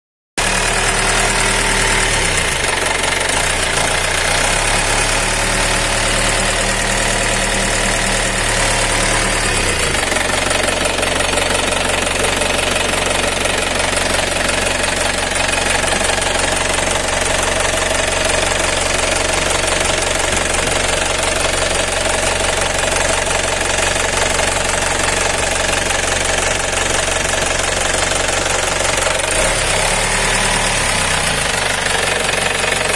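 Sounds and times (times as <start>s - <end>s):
diesel truck engine running: 0.4s - 32.9s.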